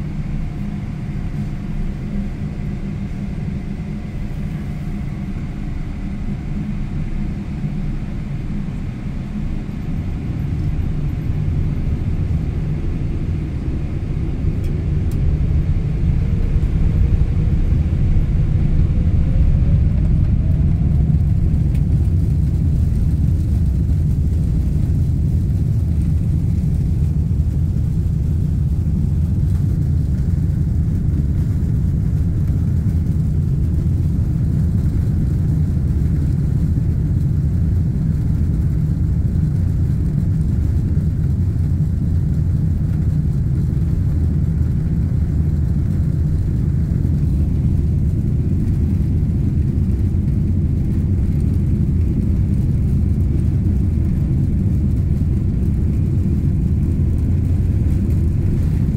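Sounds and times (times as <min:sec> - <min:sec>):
jet engines rumbling: 0:00.0 - 0:58.9.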